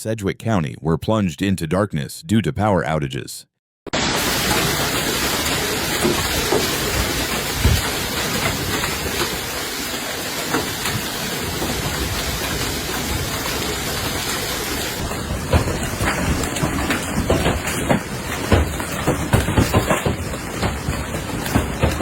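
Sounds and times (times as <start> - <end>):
pouring rain: 3.9 - 22.0
hailstones striking: 4.0 - 22.0
wind: 4.0 - 22.0.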